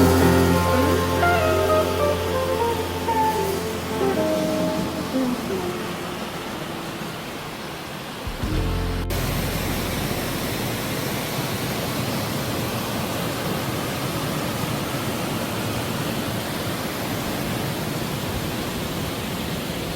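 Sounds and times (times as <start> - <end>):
stream rushing: 0.0 - 19.9.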